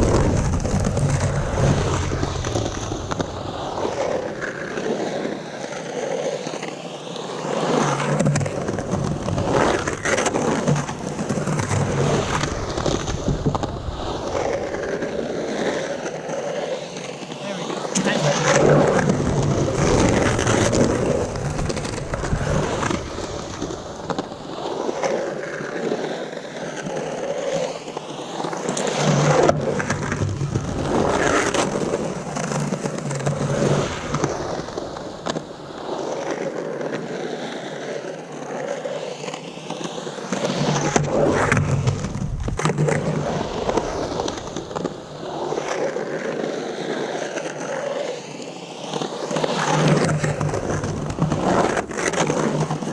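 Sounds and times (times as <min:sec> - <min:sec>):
skateboard wheels rolling on concrete: 0:00.0 - 0:52.9.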